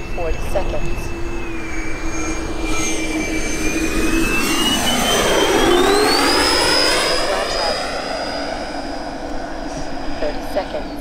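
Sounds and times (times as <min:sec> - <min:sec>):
electric ducted fans whining: 0:00.0 - 0:11.0.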